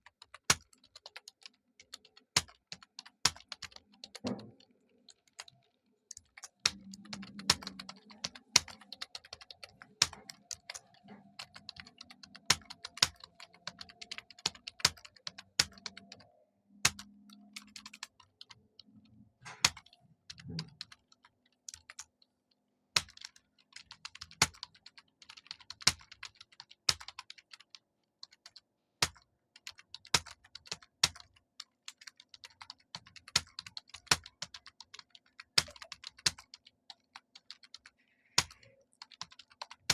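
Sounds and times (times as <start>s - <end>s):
computer keyboard typing: 0.0s - 22.4s, 23.0s - 39.9s.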